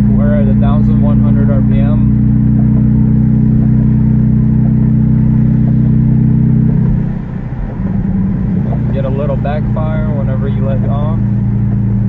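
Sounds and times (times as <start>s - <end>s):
car engine droning in cabin: 0.0s - 12.0s.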